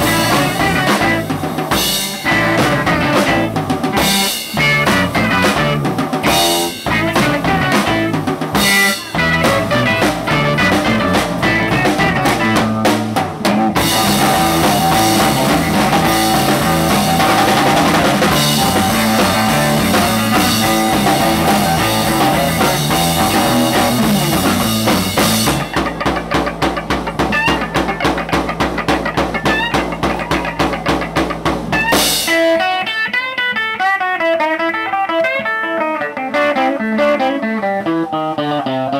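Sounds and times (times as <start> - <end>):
drum kit with cymbals: 0.0 - 33.0
electric guitar playing: 0.0 - 38.9.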